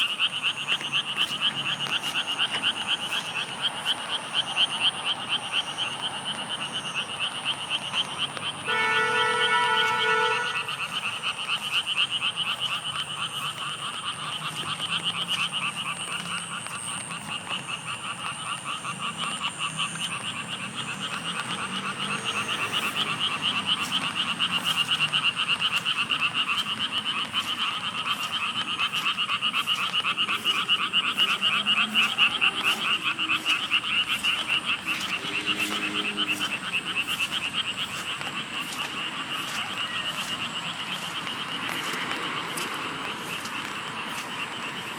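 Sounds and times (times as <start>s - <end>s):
frogs calling in trills: 0.0s - 44.9s.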